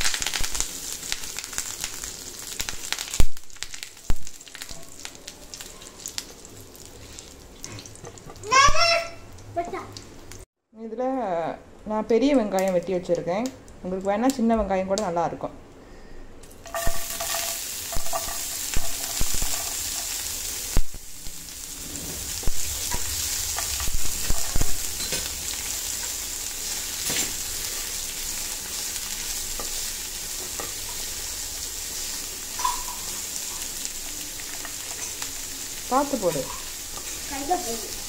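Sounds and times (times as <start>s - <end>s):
onion sizzling in oil: 0.0s - 10.5s, 16.4s - 38.0s.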